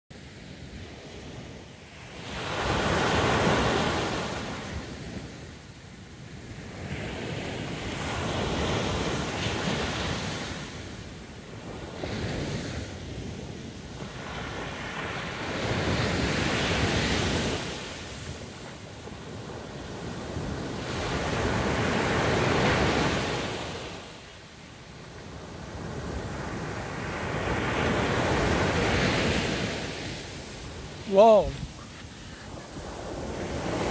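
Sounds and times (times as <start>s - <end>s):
waves breaking on beach: 0.2s - 33.9s.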